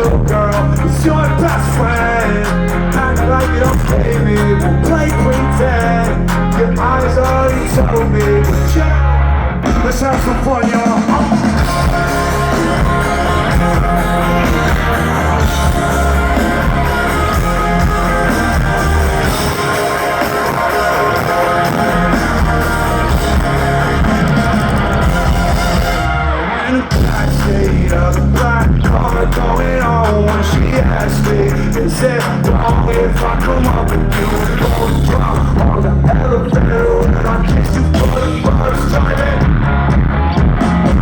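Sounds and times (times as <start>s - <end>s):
live rock band playing: 0.0s - 41.0s.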